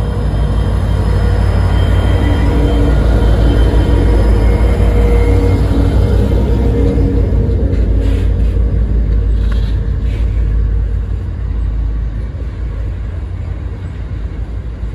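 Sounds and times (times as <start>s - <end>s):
train wheels rumbling on rail: 0.0s - 14.9s.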